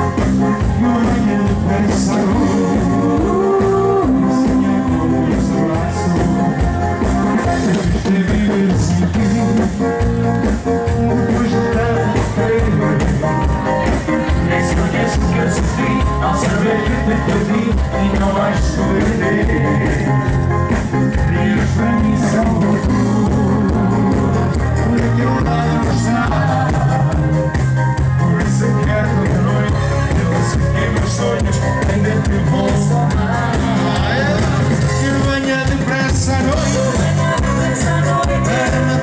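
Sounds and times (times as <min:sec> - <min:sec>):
drum kit beat: 0:00.0 - 0:39.0
live pop-rock band: 0:00.0 - 0:39.0.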